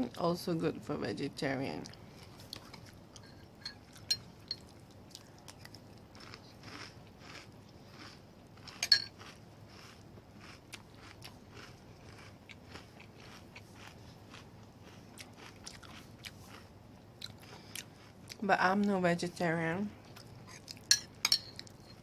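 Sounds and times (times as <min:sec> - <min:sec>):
crunching and chewing cereal: 0:01.9 - 0:18.4, 0:20.0 - 0:22.0.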